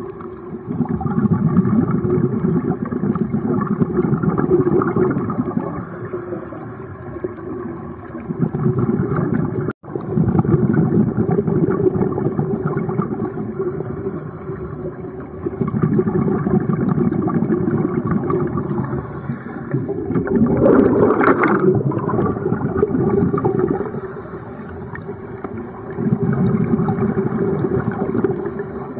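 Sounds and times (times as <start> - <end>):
regulator exhale bubbling: 0.0 - 28.9.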